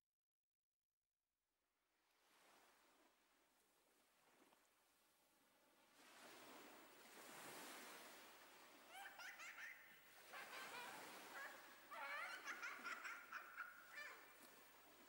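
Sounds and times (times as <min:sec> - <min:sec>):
soft rushing wash: 0:02.2 - 0:15.0.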